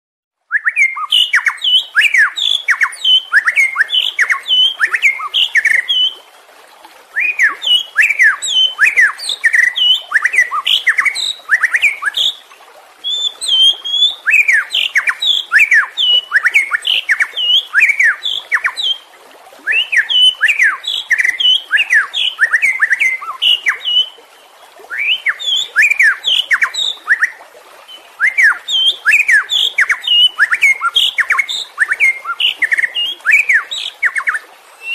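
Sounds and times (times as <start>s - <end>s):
bird singing whistled notes: 0.5s - 6.2s, 7.2s - 12.4s, 13.0s - 19.0s, 19.7s - 24.1s, 24.9s - 34.9s.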